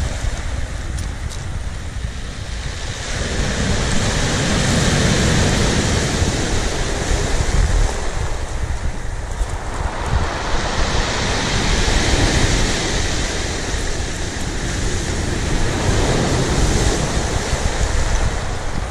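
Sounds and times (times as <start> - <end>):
sea surf washing onto shore: 0.0 - 18.9
wind rumbling on microphone: 0.0 - 18.9.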